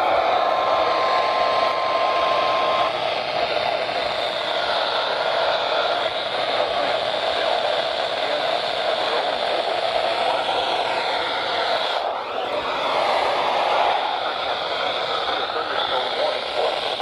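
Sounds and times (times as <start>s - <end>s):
radio static hiss: 0.2s - 17.0s.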